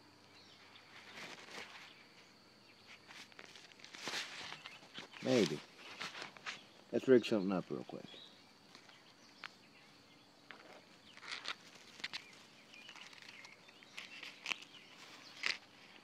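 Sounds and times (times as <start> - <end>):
grass rustling on microphone: 0.3 - 16.0.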